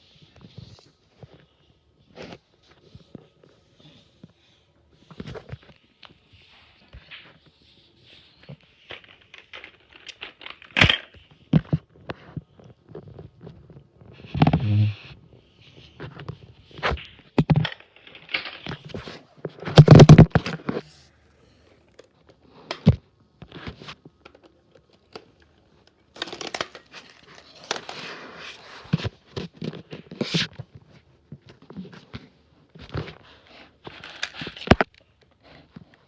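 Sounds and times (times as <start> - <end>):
crinkling and rustling handling noise: 0.0 - 36.0.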